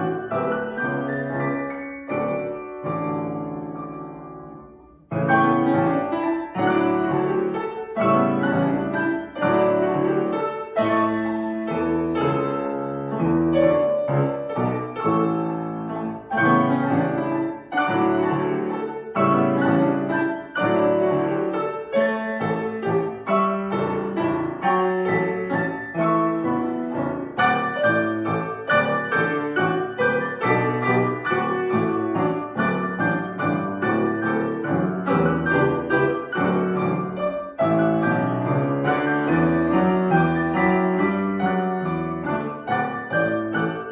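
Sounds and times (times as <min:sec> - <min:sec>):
classical piano piece: 0:00.0 - 0:43.9.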